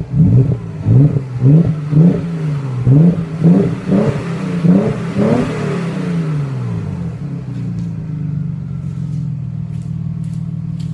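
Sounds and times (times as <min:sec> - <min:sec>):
car engine revving and idling: 0:00.0 - 0:10.9.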